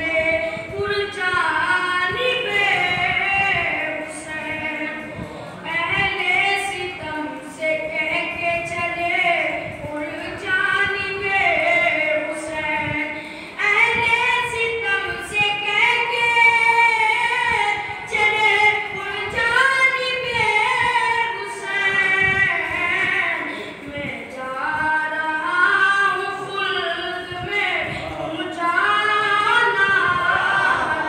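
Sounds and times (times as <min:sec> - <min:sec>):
boy chanting into microphone: 0:00.0 - 0:31.0.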